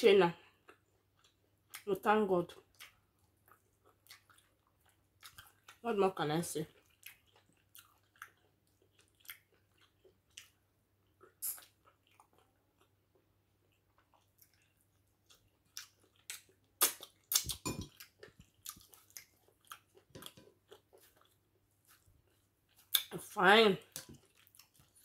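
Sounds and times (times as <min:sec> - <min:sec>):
chewing and wet mouth smacks: 0:02.6 - 0:05.8, 0:06.7 - 0:23.1, 0:23.9 - 0:25.0.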